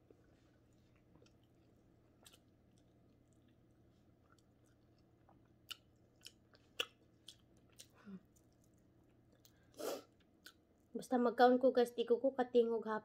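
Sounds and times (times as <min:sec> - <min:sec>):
wet chewing: 0:00.1 - 0:10.9.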